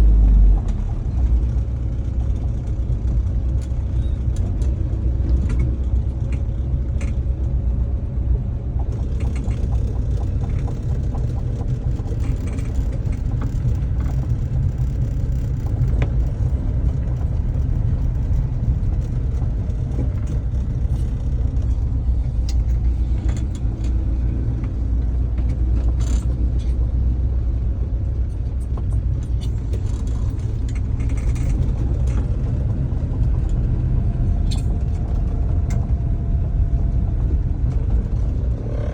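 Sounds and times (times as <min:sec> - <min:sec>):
car driving low rumble: 0:00.0 - 0:38.9.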